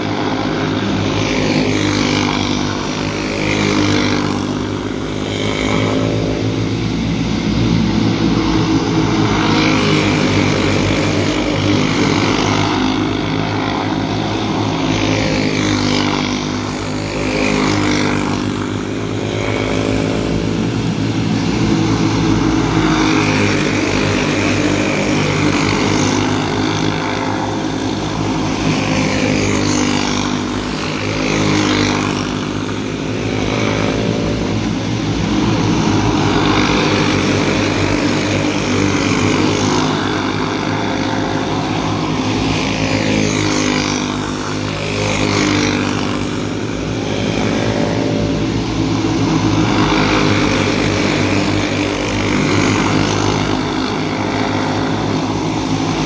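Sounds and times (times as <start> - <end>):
racing engines running hard: 0.0 - 56.0.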